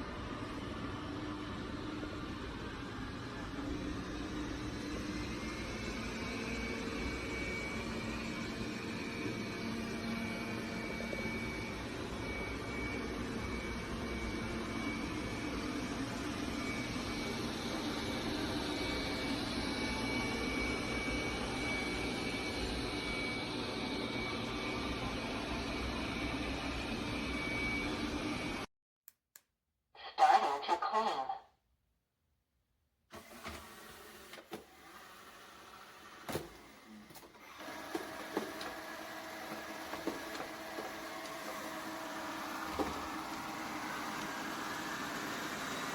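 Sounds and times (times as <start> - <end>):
robot vacuum cleaner whirring: 0.7 - 28.6, 33.1 - 45.9.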